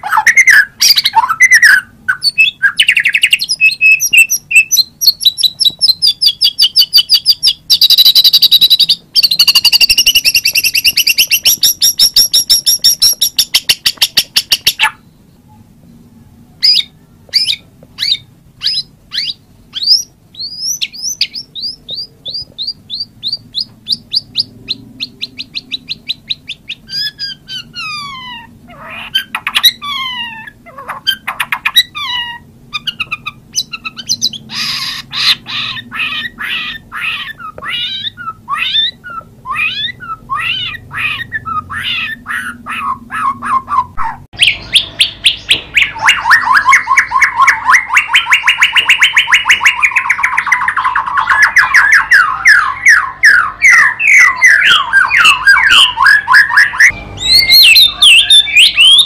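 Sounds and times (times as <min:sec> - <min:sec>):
songbird trilling and whistling: 0:00.0 - 0:15.6, 0:16.6 - 0:59.0.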